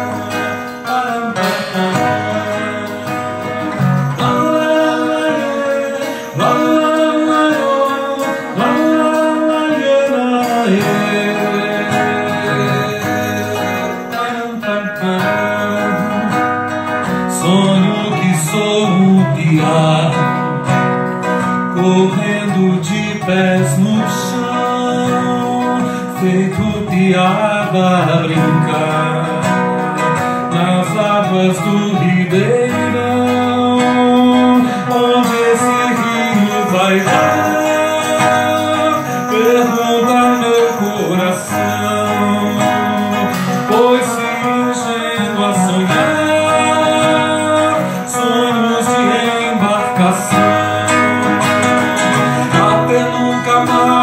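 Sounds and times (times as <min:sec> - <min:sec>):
acoustic guitar melody: 0:00.0 - 0:54.0
hand drum: 0:00.0 - 0:54.0.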